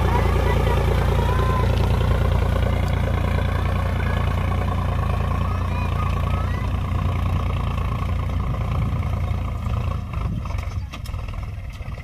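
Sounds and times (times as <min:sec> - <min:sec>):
diesel tractor engine droning: 0:00.0 - 0:12.0.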